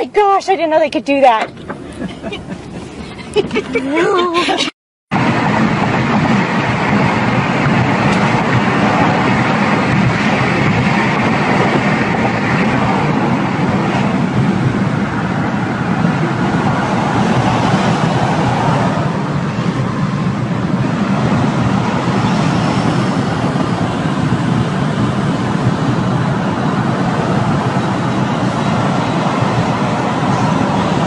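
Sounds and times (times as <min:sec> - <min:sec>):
engine and road noise in cabin: 0:00.0 - 0:31.0.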